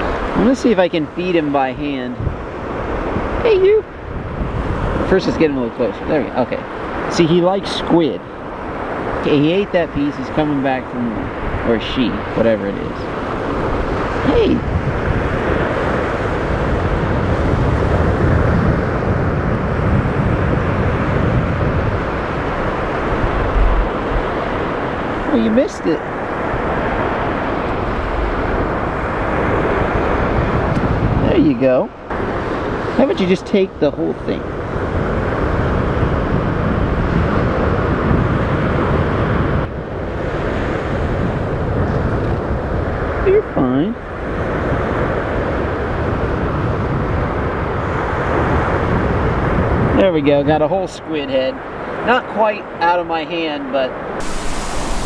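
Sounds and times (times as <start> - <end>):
ocean surf washing: 0.0 - 55.0
wind buffeting microphone: 0.0 - 55.0.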